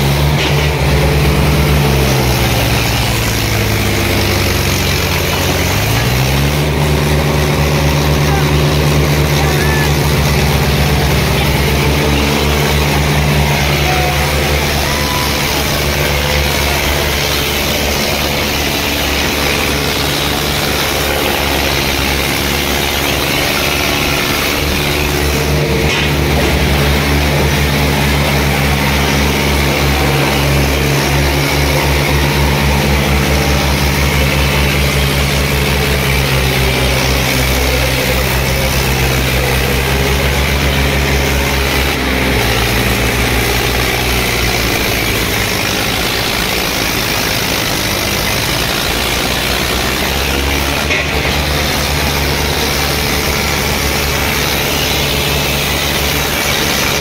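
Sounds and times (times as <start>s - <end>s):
tractor diesel engines under load: 0.0s - 57.0s.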